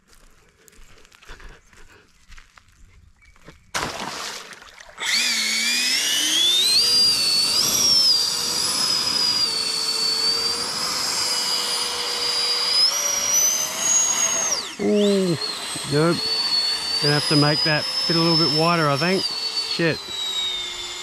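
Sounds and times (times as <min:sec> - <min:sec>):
electric motor and propeller whining: 0:00.0 - 0:21.0.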